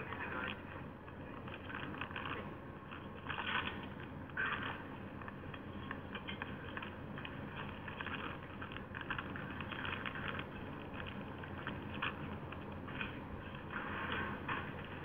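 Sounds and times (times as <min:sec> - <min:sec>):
crackling and rustling noise: 0:00.0 - 0:15.0.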